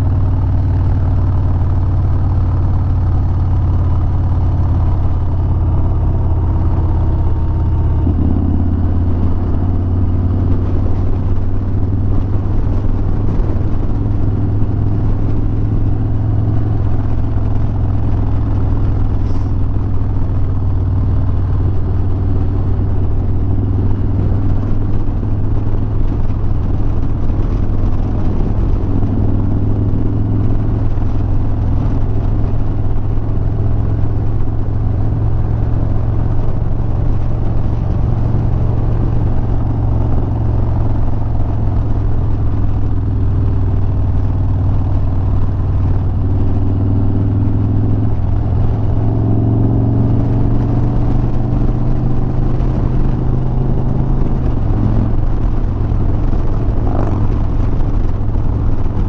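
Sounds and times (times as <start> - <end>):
motorcycle engine cruising: 0.0 - 59.0
road noise: 0.0 - 59.0
rushing wind: 0.0 - 59.0.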